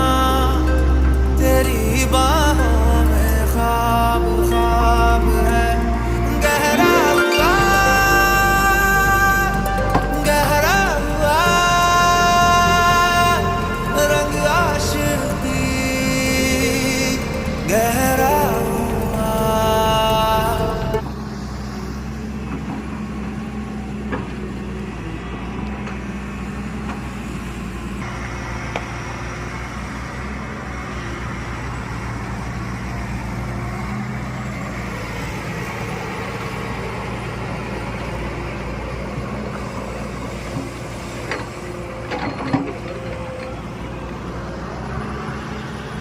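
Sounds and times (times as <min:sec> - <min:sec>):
digger diesel engine running: 0:00.0 - 0:46.0.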